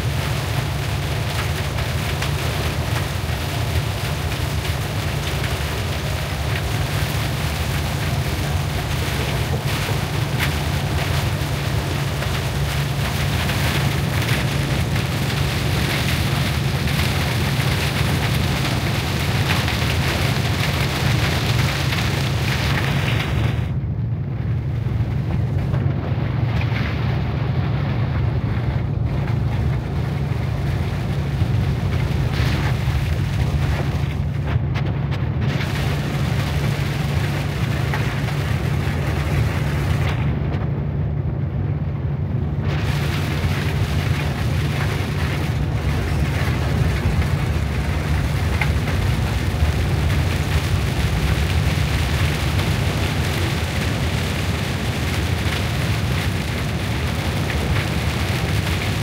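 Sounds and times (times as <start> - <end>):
engine and tyre rumble: 0.0 - 59.0
heavy rain on vehicle: 0.0 - 59.0.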